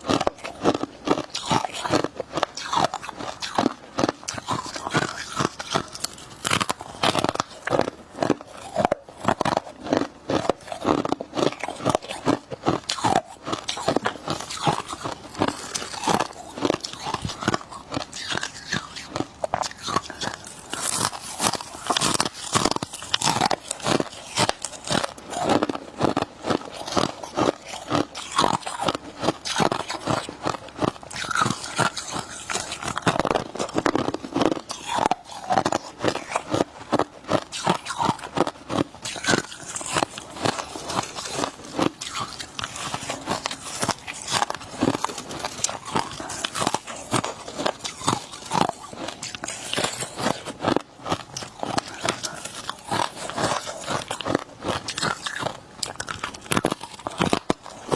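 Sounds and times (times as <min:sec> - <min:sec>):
crunching and chewing ice: 0:00.0 - 0:57.9.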